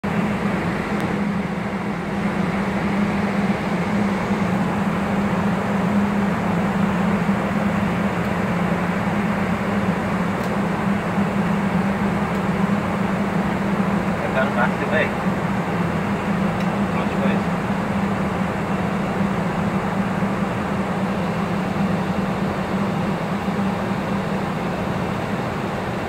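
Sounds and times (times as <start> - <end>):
constant low hum: 0.0 - 26.0
rush of air and air-conditioning: 0.0 - 26.0.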